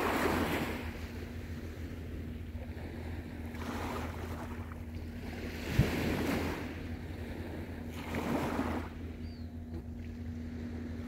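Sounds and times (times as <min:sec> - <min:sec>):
small waves washing on beach: 0:00.0 - 0:09.1.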